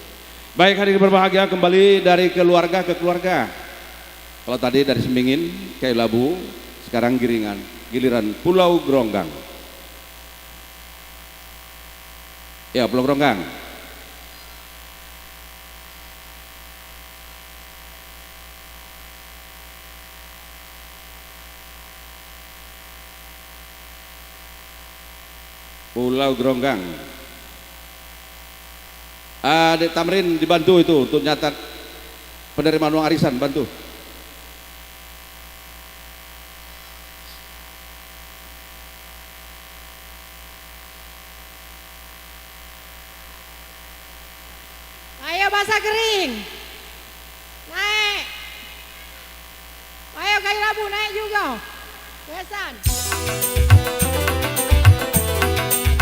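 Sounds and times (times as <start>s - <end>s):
electrical mains hum: 0.0s - 53.8s
sound system hiss: 0.0s - 56.0s.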